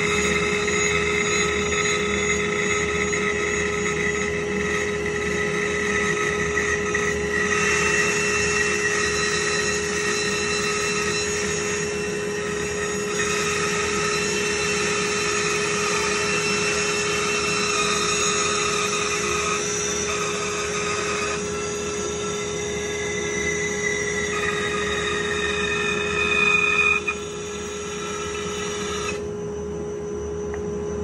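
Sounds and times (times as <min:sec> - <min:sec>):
bandsaw cutting wood: 0:00.0 - 0:29.2.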